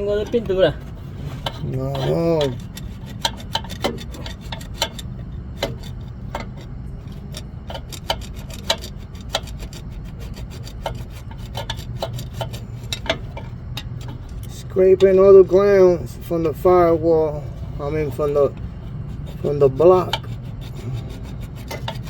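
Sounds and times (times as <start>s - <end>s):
metal scraping strokes: 0.0s - 22.0s
steady low hum: 0.0s - 22.0s.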